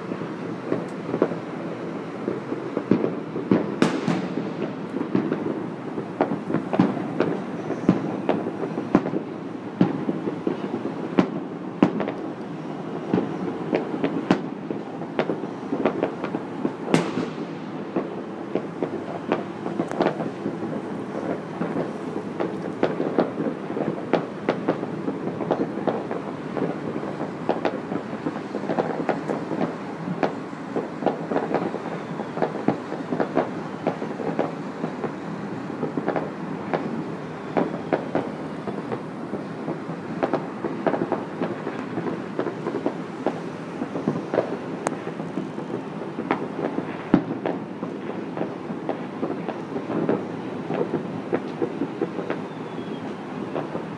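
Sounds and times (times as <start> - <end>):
distant fireworks crackling: 0.0 - 53.9
loud firework bursts: 0.0 - 53.9.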